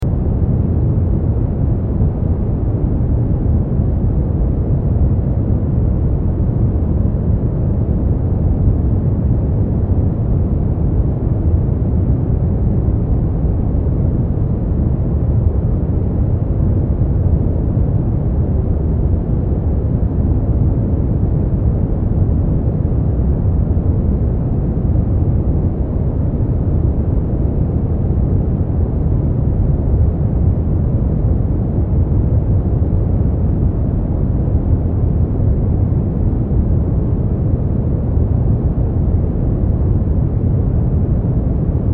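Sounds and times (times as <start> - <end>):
deep muffled white noise: 0.0 - 41.9.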